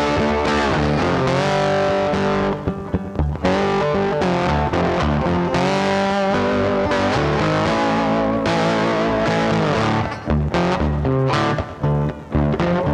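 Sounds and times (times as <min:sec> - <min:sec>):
rock music with distorted guitar: 0:00.0 - 0:12.9.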